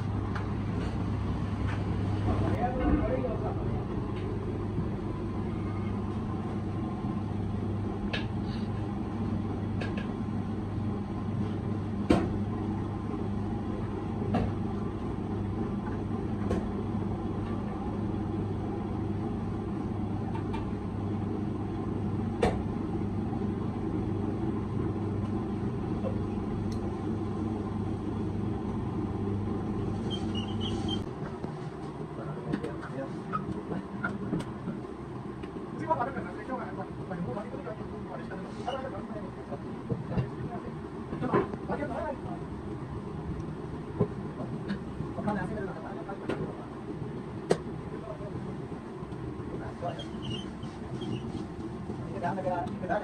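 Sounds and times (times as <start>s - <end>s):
potter's wheel humming: 0.0s - 53.0s.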